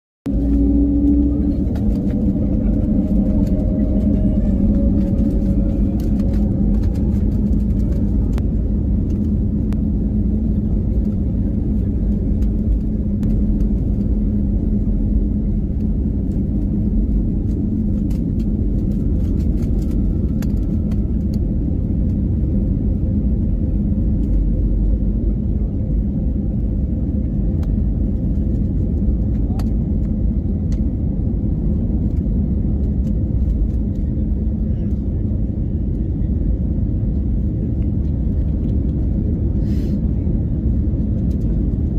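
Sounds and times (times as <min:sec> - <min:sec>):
aircraft cabin rumble and hum: 0:00.2 - 0:41.9.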